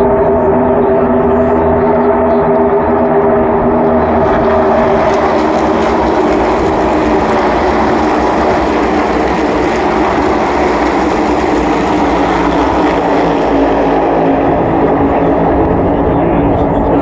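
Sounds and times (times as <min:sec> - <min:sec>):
stock car engines racing past: 0:00.0 - 0:17.0.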